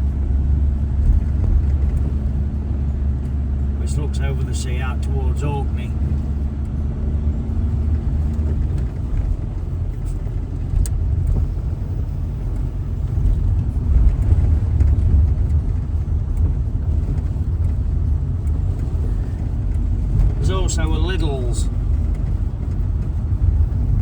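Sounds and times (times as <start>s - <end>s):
engine rumble: 0.0s - 24.0s
road noise: 0.0s - 24.0s.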